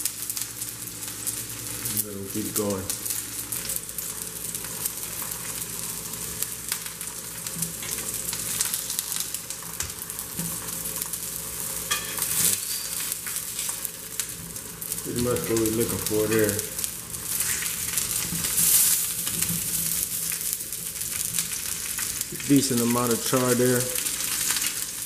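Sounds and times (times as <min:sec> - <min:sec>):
onions sizzling in oil: 0:00.0 - 0:25.0
small crackles: 0:00.0 - 0:25.0.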